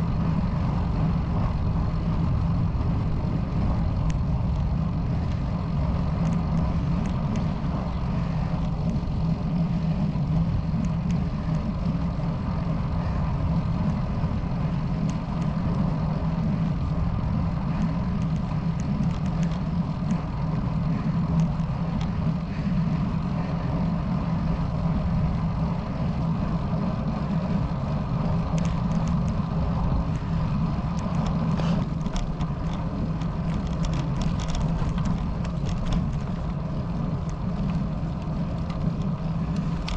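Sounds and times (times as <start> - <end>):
bicycle clicks and rattles: 0.0 - 39.9
tyres humming on road: 0.0 - 39.9
wind rushing over microphone: 0.0 - 39.9.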